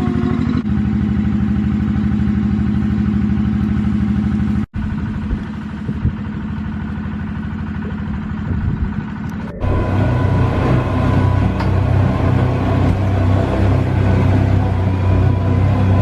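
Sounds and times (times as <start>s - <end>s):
engine running with throbbing rhythm: 0.0s - 16.0s.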